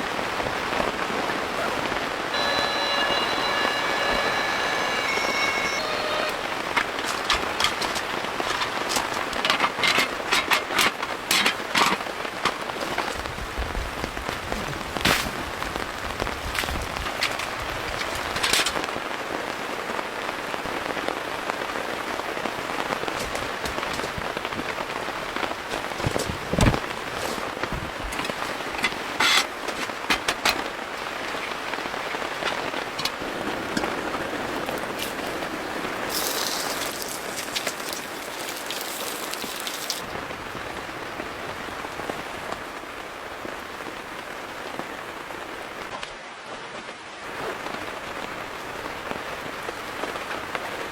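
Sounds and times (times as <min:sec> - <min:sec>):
rain drops striking: 0:00.0 - 0:50.9.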